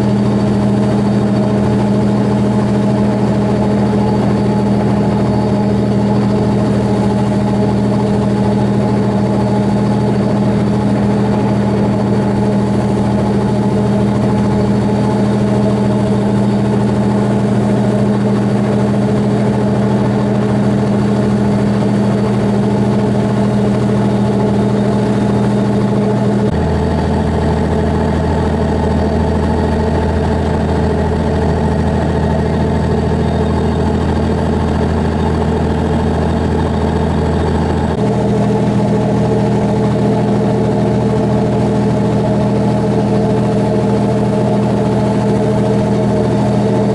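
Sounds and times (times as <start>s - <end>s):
boat engine drone: 0.0s - 46.9s.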